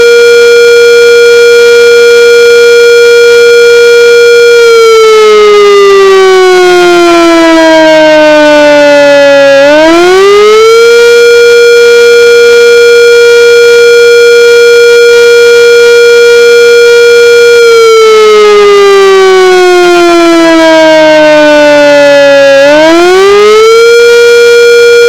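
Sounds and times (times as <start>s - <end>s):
warning siren wailing: 0.0s - 25.0s.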